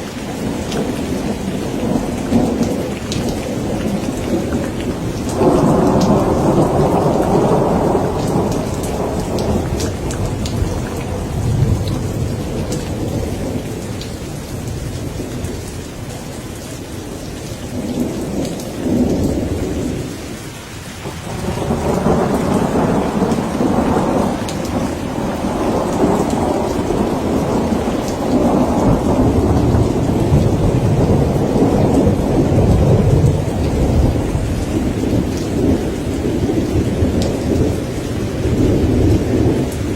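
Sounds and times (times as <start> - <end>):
rain pattering: 0.0 - 39.9
thunder rolling: 0.3 - 14.0, 21.0 - 39.9.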